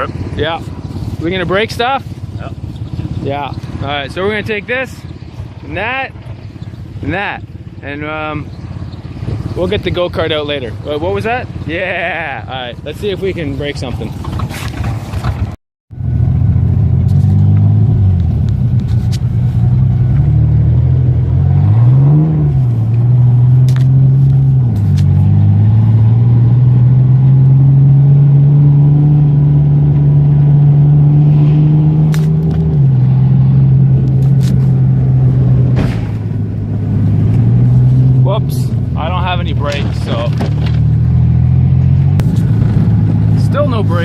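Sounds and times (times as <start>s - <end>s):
vehicle engine revving: 0.0s - 44.0s.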